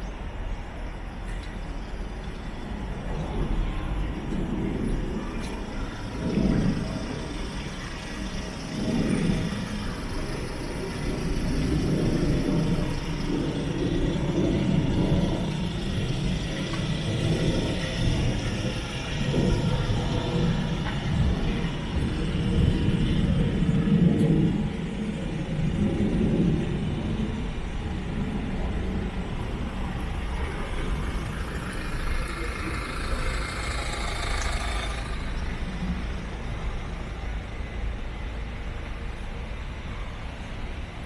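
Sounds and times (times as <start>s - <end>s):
street hum: 0.0s - 41.0s
vehicle engine running: 0.0s - 41.0s.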